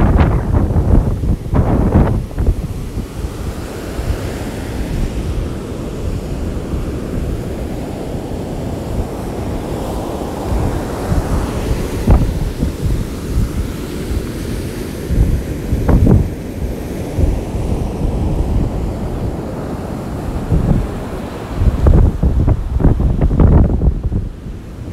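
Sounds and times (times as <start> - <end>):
heavy surf washing up beach: 0.0 - 24.9
wind blowing on microphone: 0.0 - 24.9.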